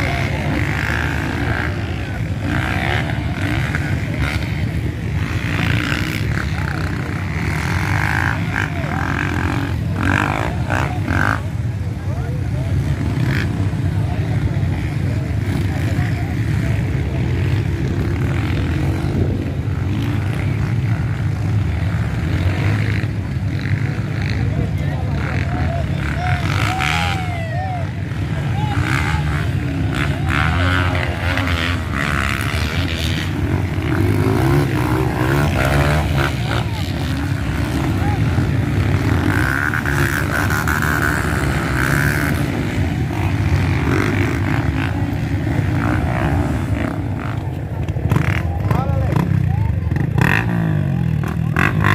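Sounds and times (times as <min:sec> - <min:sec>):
dirt bike engines running: 0:00.0 - 0:51.9.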